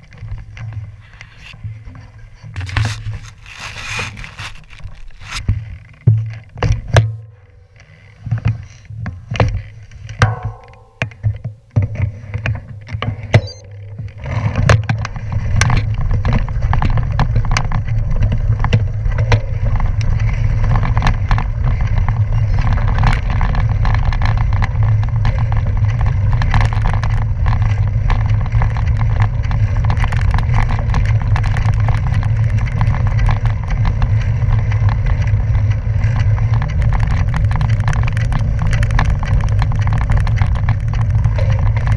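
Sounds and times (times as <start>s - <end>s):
bicycle knocks and rattles: 0.0s - 41.9s
bicycle tyres rolling on gravel: 0.0s - 41.9s.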